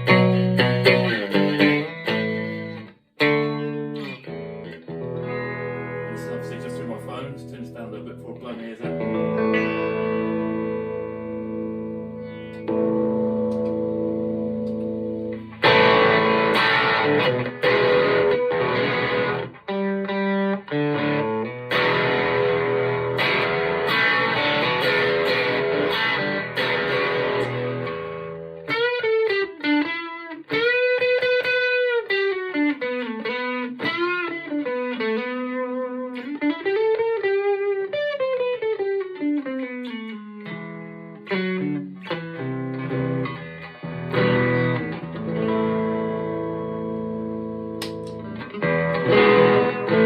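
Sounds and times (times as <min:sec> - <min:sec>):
distorted electric guitar: 0:00.0 - 0:50.0.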